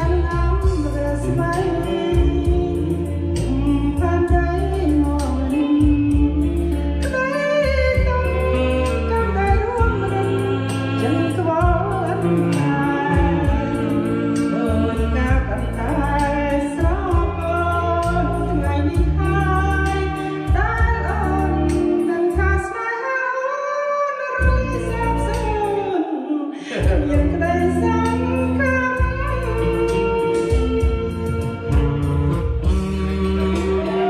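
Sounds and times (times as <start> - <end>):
bass and steady beat: 0.0 - 22.6, 24.4 - 25.7, 26.8 - 34.0
person singing: 0.0 - 34.0.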